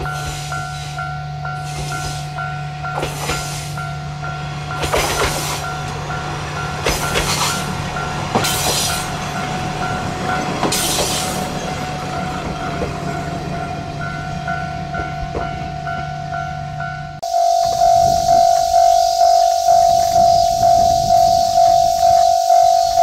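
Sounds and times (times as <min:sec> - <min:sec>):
diesel railcar engine running: 0:00.0 - 0:23.0
railway crossing bell ringing: 0:00.0 - 0:23.0.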